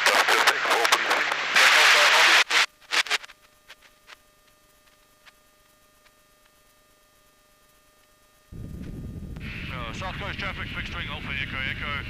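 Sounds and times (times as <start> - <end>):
radio static hiss: 0.0 - 8.7, 9.3 - 12.0
faint electronic hum: 0.0 - 12.0.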